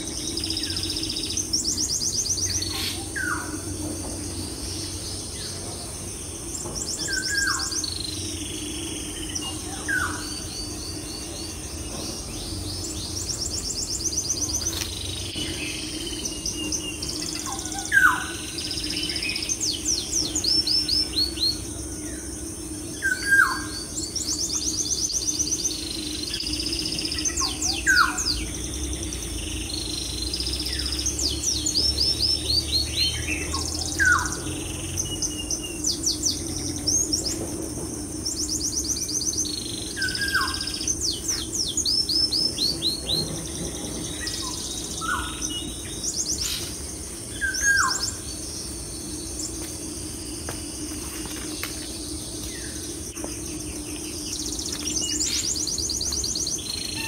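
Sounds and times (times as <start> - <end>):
low steady hum: 0.0 - 57.0
small birds chirping and trilling: 0.0 - 57.0.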